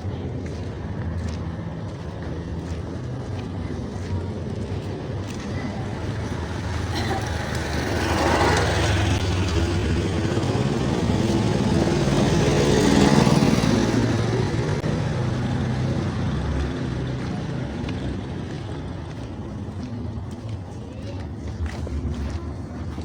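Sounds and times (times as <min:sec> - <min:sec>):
road and traffic noise: 0:00.0 - 0:23.0
vehicle engine running: 0:00.0 - 0:23.0.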